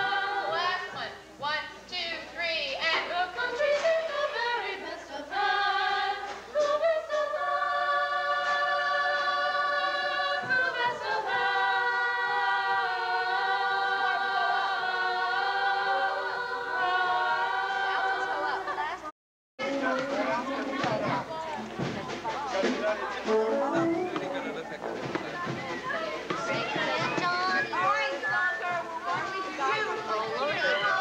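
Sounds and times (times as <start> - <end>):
chorus singing: 0.0 - 1.2, 2.8 - 31.0.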